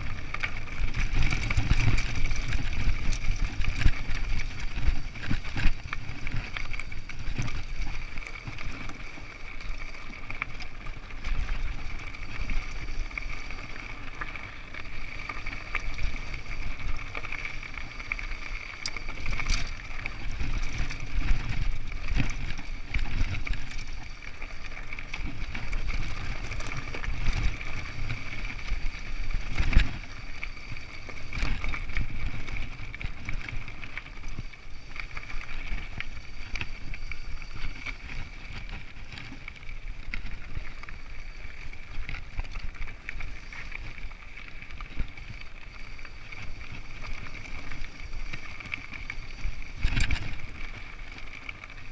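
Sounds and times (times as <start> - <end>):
bike wheels rumbling over rocks: 0.0 - 51.9.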